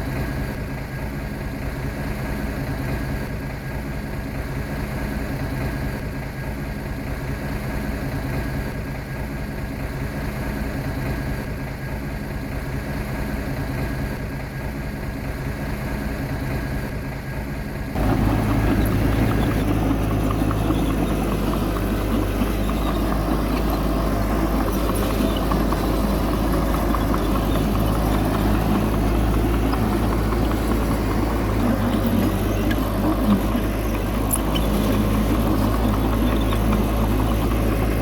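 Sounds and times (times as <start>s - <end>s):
diesel machinery engine running: 0.0s - 38.0s.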